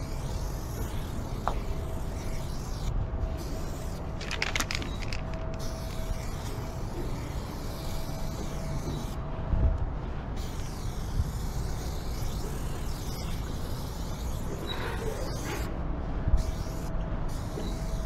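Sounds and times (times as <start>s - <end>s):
spray paint can hissing: 0.0s - 9.2s, 10.4s - 15.7s, 16.4s - 18.0s.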